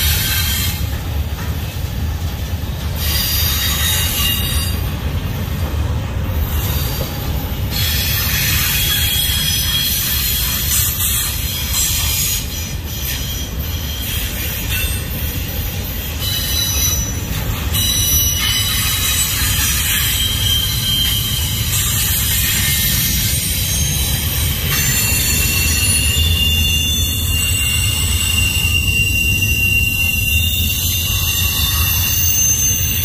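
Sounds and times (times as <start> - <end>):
freight train rumbling past: 0.0 - 33.0
high wheel squeals: 2.9 - 4.9, 6.3 - 33.0.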